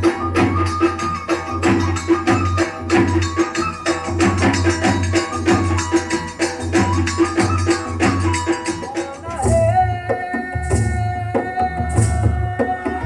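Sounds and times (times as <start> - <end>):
folk dance music with percussion: 0.0 - 13.0.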